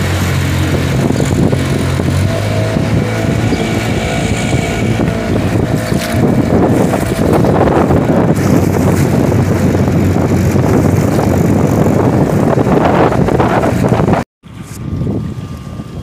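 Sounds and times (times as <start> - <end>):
motorboat engine running: 0.0 - 16.0
water splashing off hull: 0.0 - 16.0
wind on microphone: 0.0 - 16.0.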